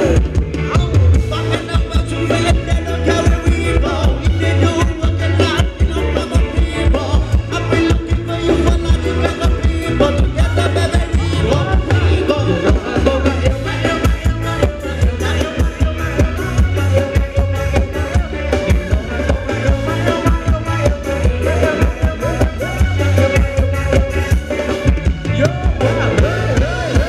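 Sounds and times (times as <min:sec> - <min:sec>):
live dance band music: 0:00.0 - 0:27.0
person singing: 0:00.0 - 0:27.0.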